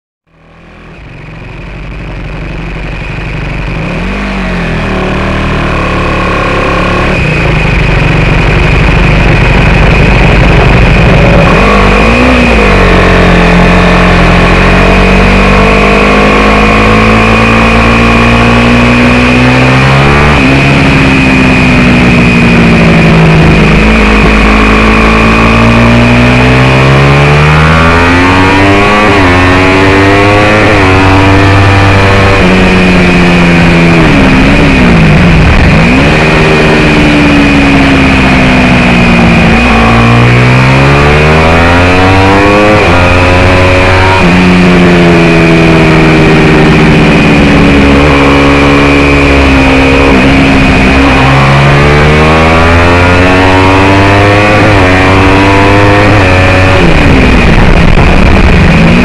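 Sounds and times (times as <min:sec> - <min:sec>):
motorcycle engine revving: 0:00.2 - 0:59.0
high-pitched whine: 0:00.3 - 0:59.0
wind noise: 0:06.2 - 0:59.0.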